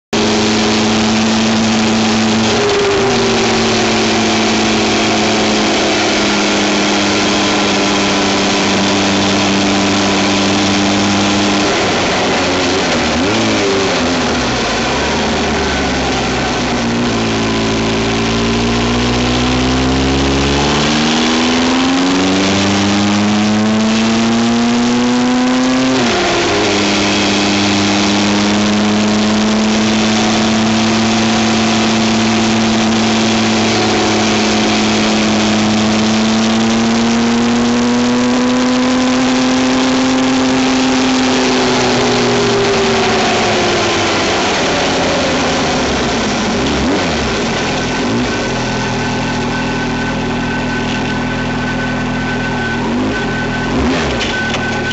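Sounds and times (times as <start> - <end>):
vehicle engine accelerating: 0.0 - 54.9
wind and road noise: 0.2 - 54.9.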